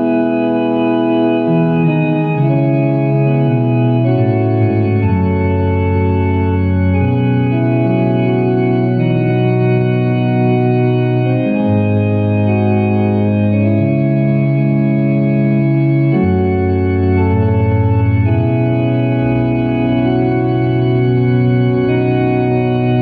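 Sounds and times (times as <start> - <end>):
organ playing slow chords: 0.0 - 23.0.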